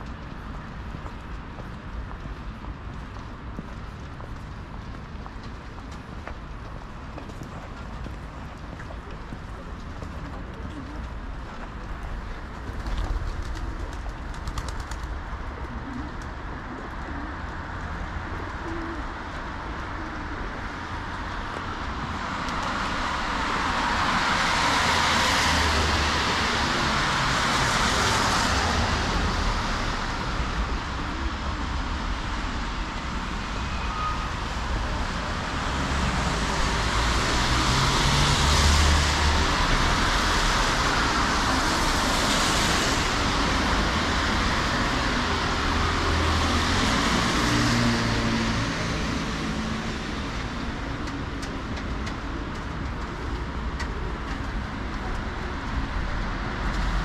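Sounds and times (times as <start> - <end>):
cars passing on wet road: 9.4 - 57.0.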